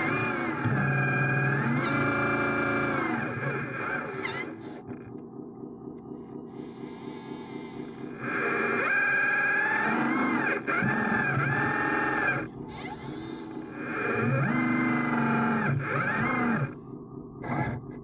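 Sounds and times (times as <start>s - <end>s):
rc machine motor whine: 0.0s - 5.0s, 6.5s - 16.8s.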